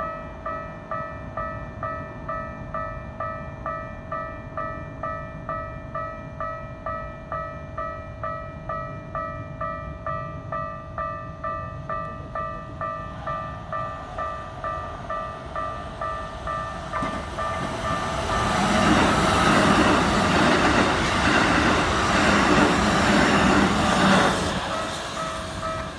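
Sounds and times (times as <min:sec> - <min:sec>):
train running: 0:00.0 - 0:25.9.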